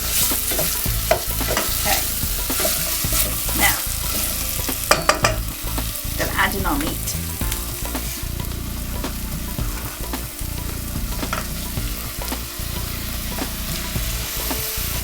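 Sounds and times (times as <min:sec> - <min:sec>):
spoon stirring and knocking pot: 0:00.0 - 0:14.9
meat sizzling in hot oil: 0:00.0 - 0:15.0.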